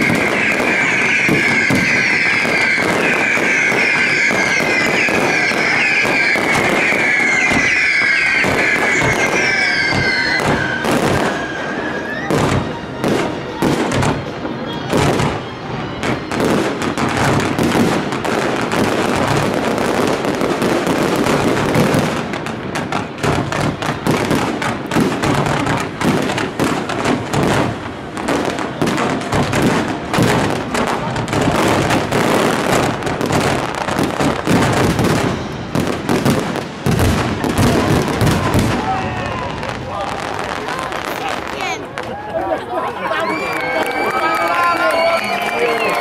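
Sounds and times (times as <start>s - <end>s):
fireworks bangs and crackles: 0.0s - 42.4s.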